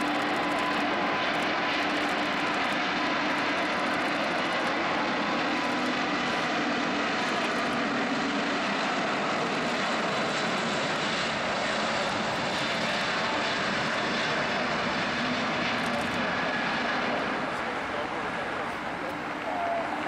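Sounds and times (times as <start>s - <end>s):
jet engines roaring at takeoff: 0.0s - 20.0s.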